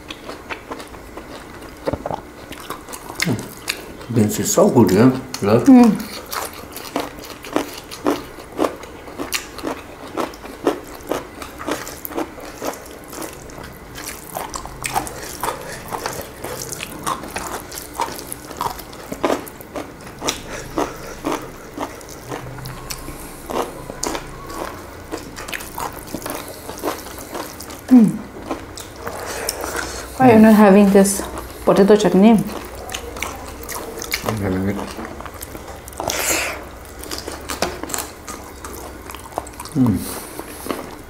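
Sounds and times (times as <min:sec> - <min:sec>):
wet chewing and lip-smacking: 0:00.0 - 0:04.1, 0:05.3 - 0:30.2, 0:32.4 - 0:41.0.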